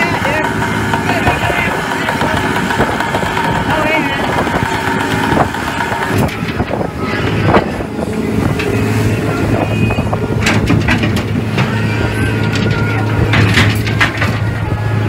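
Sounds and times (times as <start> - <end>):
metal knocks and clanks: 0.0 - 8.9, 10.0 - 14.8
boat engine humming: 0.0 - 15.0
wind: 0.0 - 15.0.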